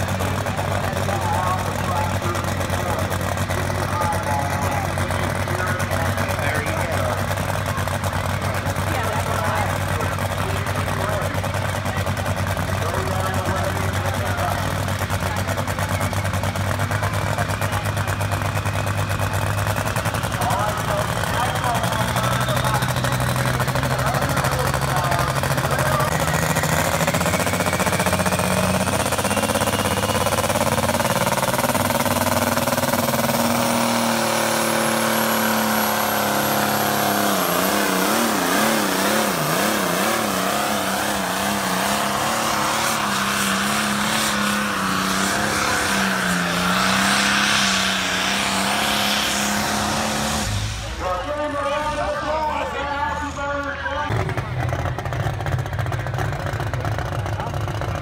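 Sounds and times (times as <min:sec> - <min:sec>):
tractor engine at full throttle: 0:00.0 - 0:58.0.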